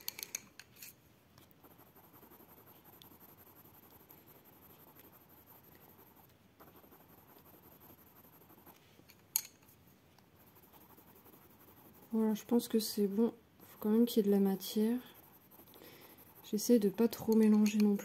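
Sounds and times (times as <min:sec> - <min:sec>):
pencil scratching on paper: 0:01.6 - 0:08.8, 0:10.4 - 0:18.0.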